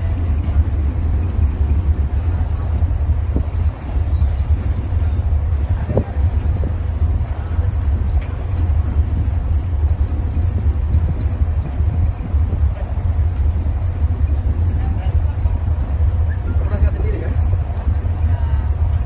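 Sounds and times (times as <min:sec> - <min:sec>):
ship engine rumble and rushing: 0:00.0 - 0:19.0
wind buffeting microphone: 0:00.0 - 0:19.0.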